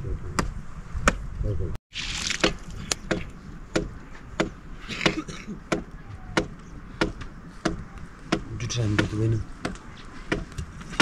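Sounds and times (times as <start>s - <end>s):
sharp chopping knocks: 0.4s - 1.2s, 2.3s - 11.0s.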